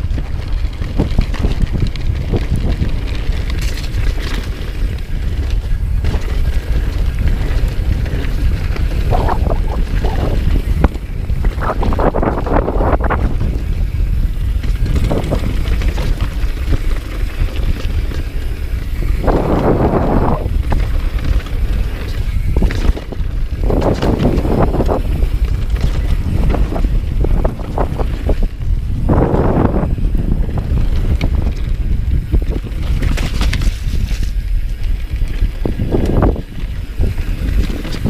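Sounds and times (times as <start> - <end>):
bike clattering over bumps: 0.0 - 38.0
bike tyres rushing over dirt: 0.0 - 38.0
wind buffeting microphone: 0.0 - 38.0.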